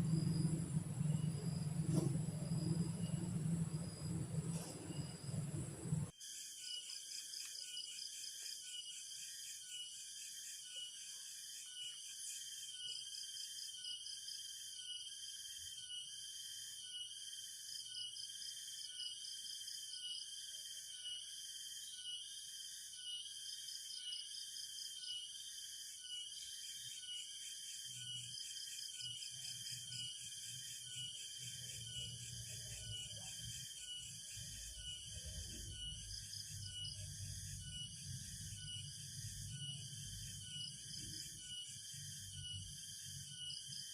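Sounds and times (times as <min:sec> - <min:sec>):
pulsing insect chorus: 0:00.0 - 0:43.9.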